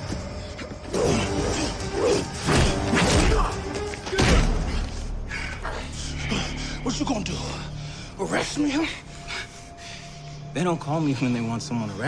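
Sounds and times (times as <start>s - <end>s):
dramatic background music: 0.0s - 12.0s.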